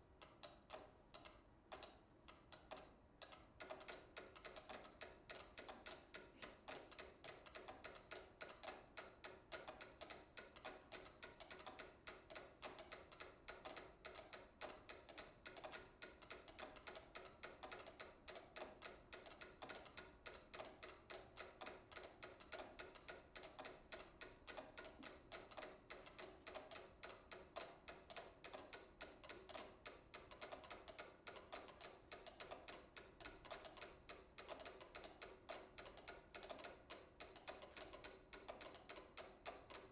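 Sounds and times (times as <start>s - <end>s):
mechanical metronomes ticking: 0.2s - 39.9s.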